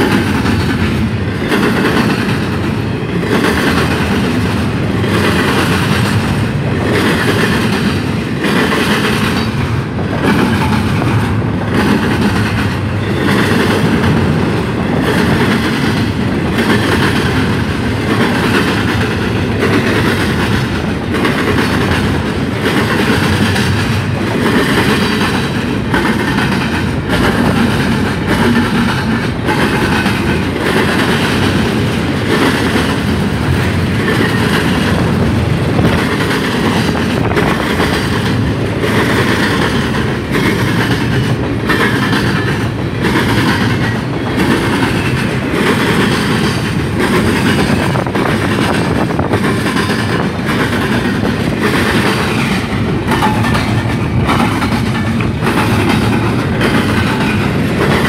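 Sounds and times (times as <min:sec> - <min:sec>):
train wheels rumbling on rail: 0:00.0 - 0:58.0
wheels clickety-clack over rail joints: 0:00.0 - 0:58.0.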